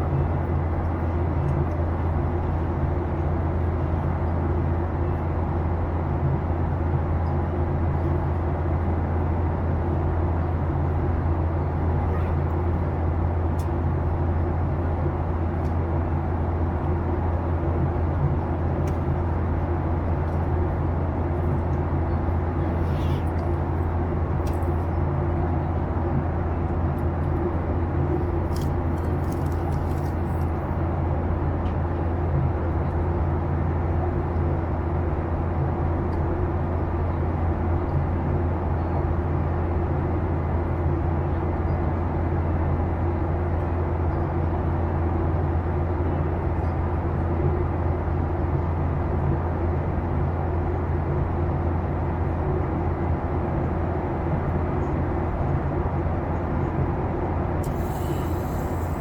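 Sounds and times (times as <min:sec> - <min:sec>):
airliner cabin engine drone: 0:00.0 - 0:59.0.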